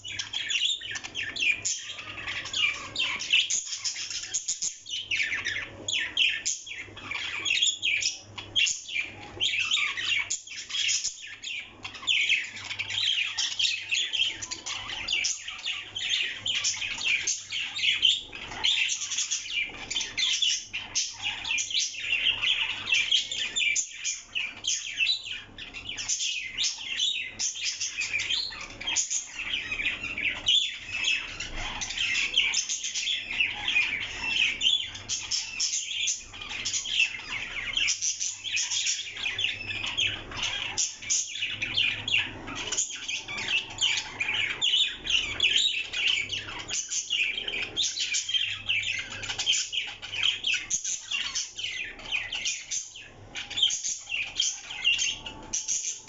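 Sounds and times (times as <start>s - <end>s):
parrot chirping: 0.0s - 56.0s.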